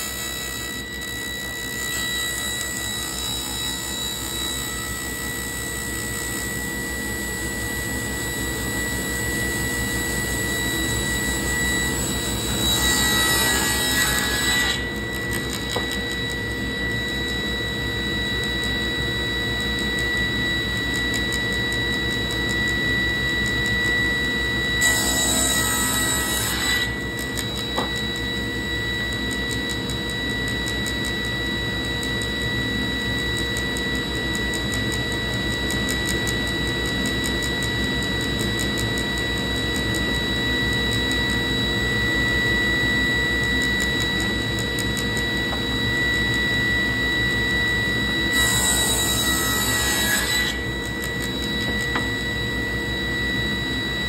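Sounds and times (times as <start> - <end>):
table saw whining: 0.0 - 54.0.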